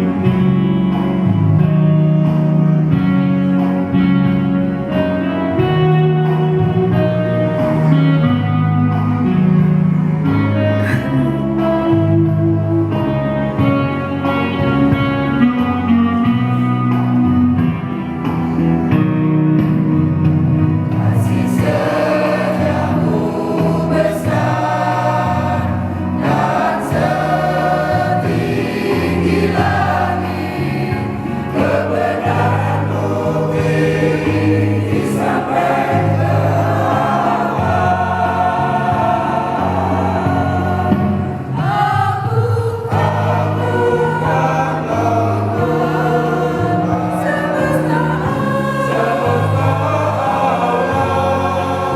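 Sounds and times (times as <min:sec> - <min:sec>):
choir singing a hymn: 0:00.0 - 0:19.0, 0:19.6 - 0:51.9
instrumental accompaniment: 0:00.0 - 0:51.9.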